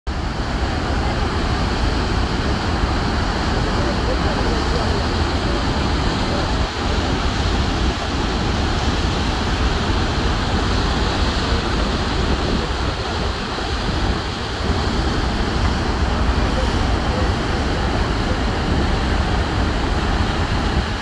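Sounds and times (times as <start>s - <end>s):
waterfall roaring: 0.1s - 21.0s.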